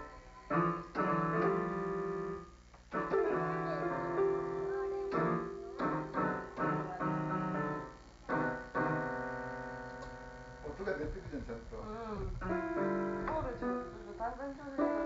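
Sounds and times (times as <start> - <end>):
electronic keyboard note clusters: 0.0 - 15.0.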